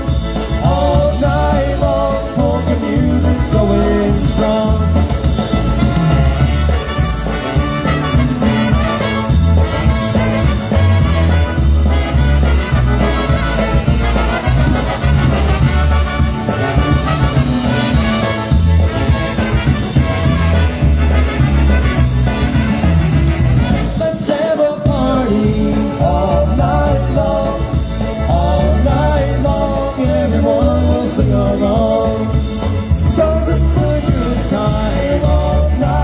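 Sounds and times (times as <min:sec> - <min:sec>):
polka band playing: 0:00.0 - 0:36.0.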